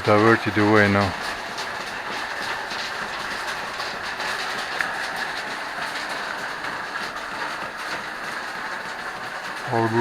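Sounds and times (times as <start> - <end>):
faint water ticks: 0.3 - 10.0.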